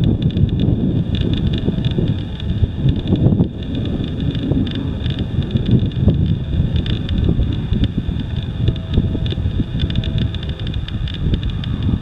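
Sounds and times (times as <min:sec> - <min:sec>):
faint high whine: 0:00.0 - 0:12.0
wind buffeting microphone: 0:00.0 - 0:12.0.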